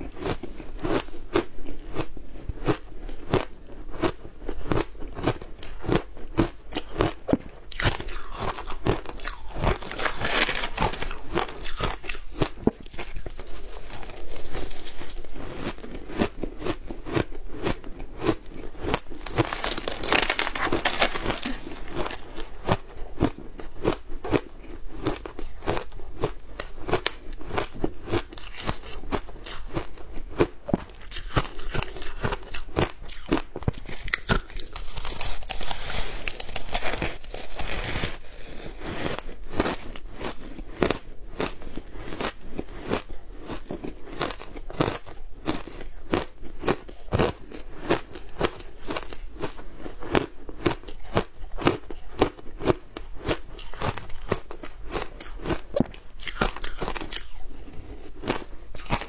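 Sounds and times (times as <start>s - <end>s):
crunching shaved ice: 0.0s - 59.0s.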